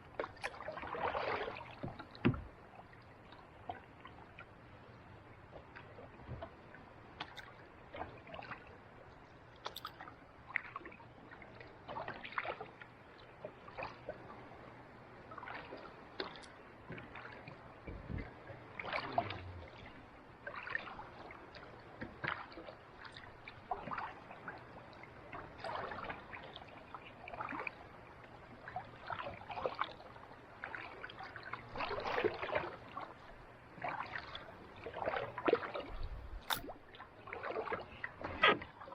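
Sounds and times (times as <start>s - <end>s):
paddle splashing in water: 0.1s - 4.5s, 5.5s - 8.8s, 9.6s - 14.4s, 15.3s - 38.9s.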